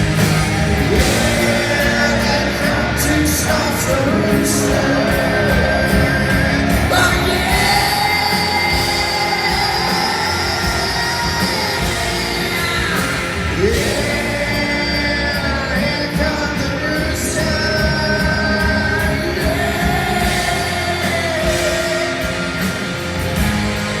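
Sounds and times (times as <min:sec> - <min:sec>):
heavy rock music: 0:00.0 - 0:24.0
person singing: 0:00.0 - 0:24.0.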